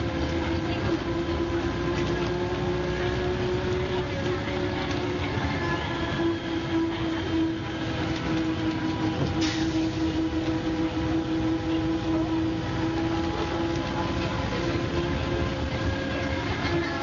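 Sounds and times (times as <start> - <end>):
bus drivetrain drone and whine: 0.0 - 17.0.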